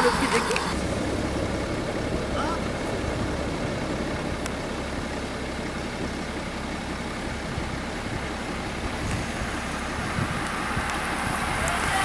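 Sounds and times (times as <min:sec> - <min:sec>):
outdoor rumble: 0:00.0 - 0:12.0
rain hissing on wet road: 0:00.0 - 0:12.0.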